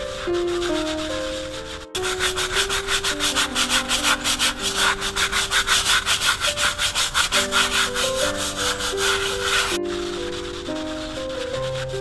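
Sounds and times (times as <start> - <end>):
scrub brush scrubbing wet concrete: 0.0 - 12.0.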